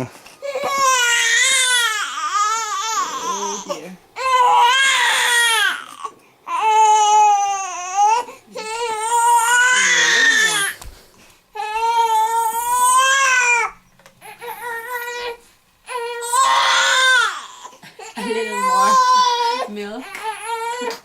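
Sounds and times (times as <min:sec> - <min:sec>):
infant crying: 0:00.4 - 0:10.8, 0:11.6 - 0:21.0.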